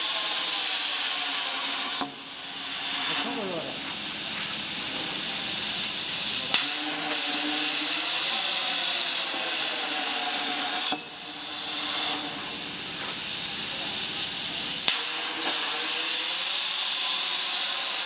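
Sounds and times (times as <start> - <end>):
plasma cutter hissing: 0.0 - 18.0.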